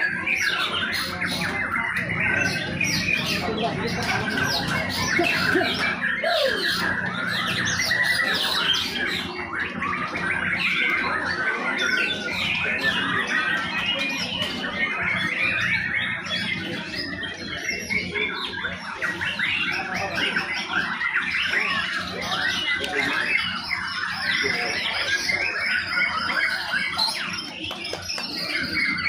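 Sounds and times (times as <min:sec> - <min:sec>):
birds chirping chorus: 0:00.0 - 0:29.0.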